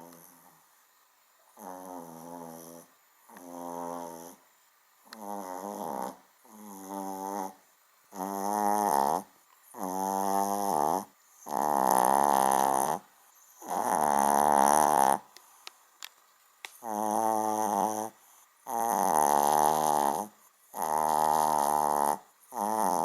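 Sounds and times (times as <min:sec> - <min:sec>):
small dog snoring: 0:00.0 - 0:00.6, 0:01.5 - 0:04.4, 0:05.0 - 0:15.6, 0:16.7 - 0:23.0.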